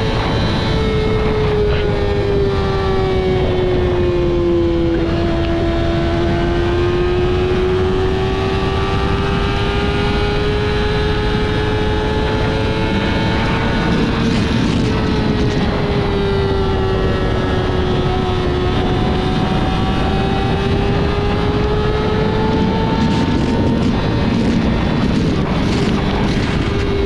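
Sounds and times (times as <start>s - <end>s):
motorcycle engine at high revs: 0.0s - 27.0s
rush of noise: 0.0s - 27.0s.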